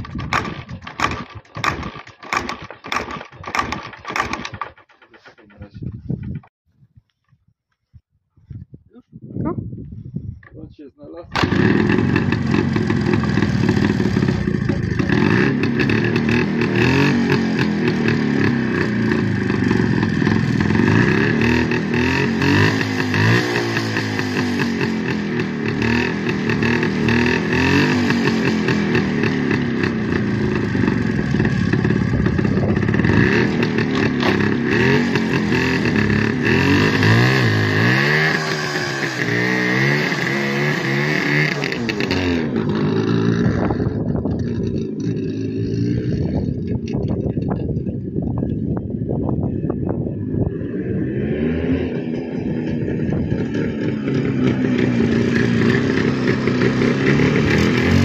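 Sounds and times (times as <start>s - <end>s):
motorcycle engine revving: 0.0s - 6.5s, 11.3s - 58.0s.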